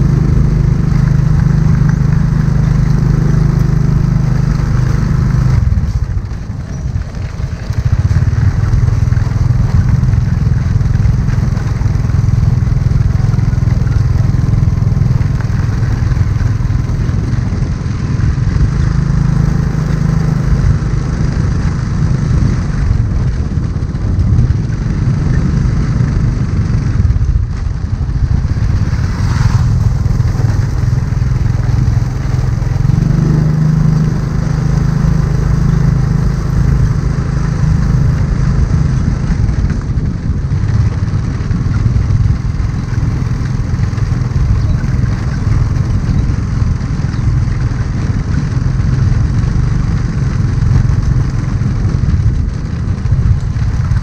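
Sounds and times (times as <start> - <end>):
small motorcycle engine running: 0.0 - 54.0
wind rumble on microphone: 0.0 - 54.0.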